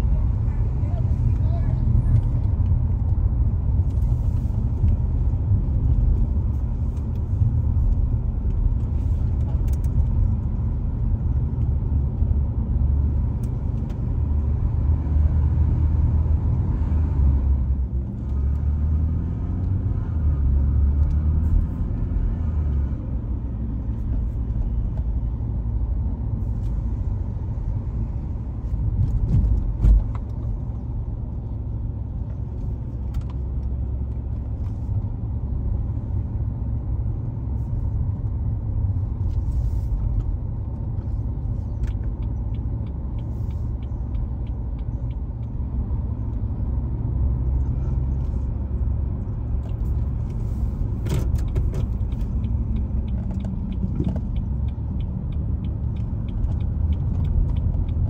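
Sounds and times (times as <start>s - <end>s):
car road rumble: 0.0s - 58.0s.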